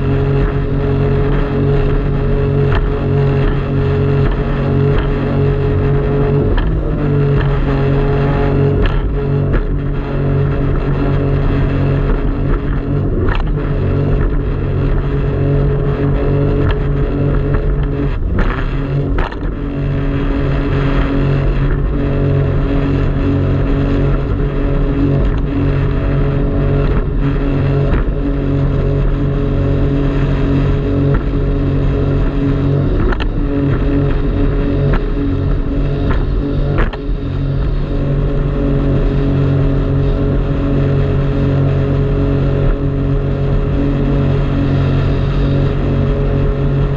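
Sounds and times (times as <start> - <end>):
jet ski engine running: 0.0 - 46.9
wind: 0.0 - 46.9.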